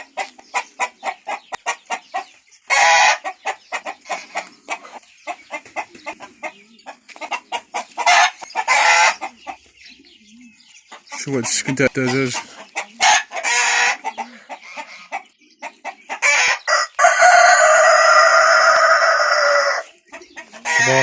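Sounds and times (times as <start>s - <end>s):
chickens clucking: 0.0s - 21.0s
loud chicken calls: 0.0s - 21.0s.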